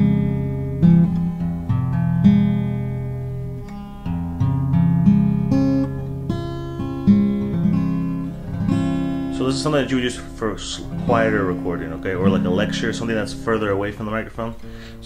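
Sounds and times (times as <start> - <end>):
acoustic guitar finger-plucked: 0.0 - 15.0.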